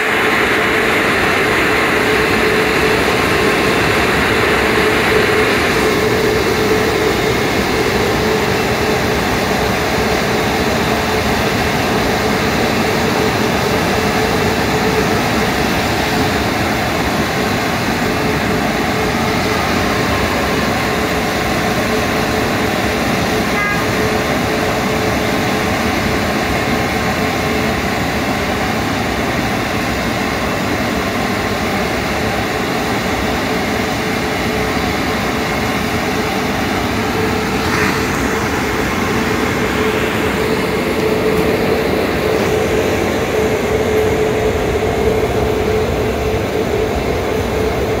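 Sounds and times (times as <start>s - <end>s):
air-dryer blowers rushing: 0.0s - 48.0s.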